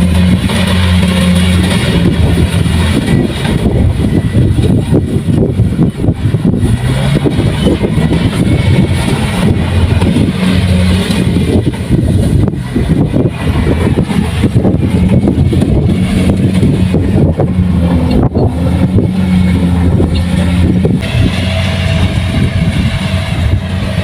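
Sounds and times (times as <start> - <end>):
combine harvester engine running: 0.0 - 24.0
low mechanical rattle: 0.0 - 24.0.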